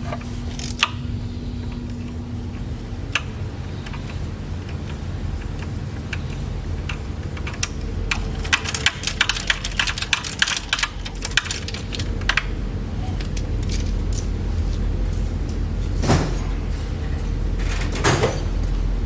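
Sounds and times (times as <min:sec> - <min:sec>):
metallic clicks and rattles: 0:00.1 - 0:18.8.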